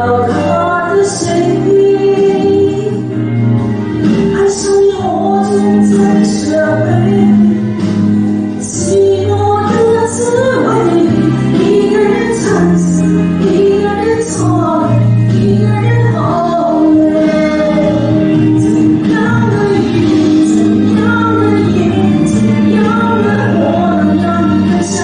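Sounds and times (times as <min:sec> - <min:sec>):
woman singing pop ballad: 0:00.0 - 0:25.0.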